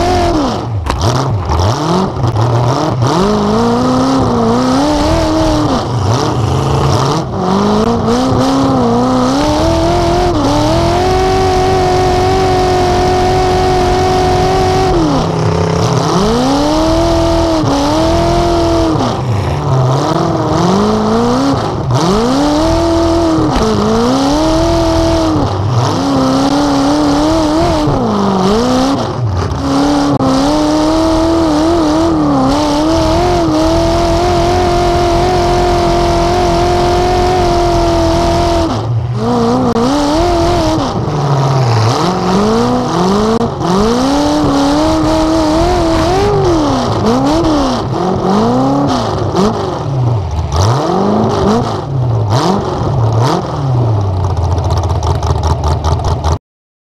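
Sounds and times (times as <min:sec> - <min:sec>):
car engine revving: 0:00.0 - 0:56.4.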